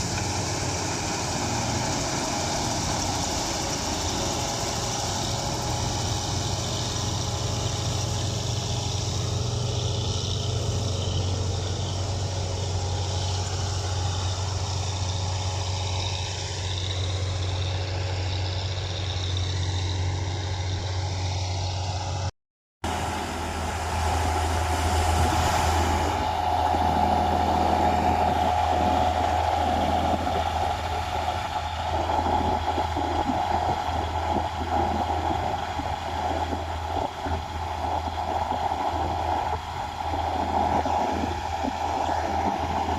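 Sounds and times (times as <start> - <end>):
combine harvester engine hum: 0.0 - 42.9
mid-pitched machine whine: 0.0 - 42.9.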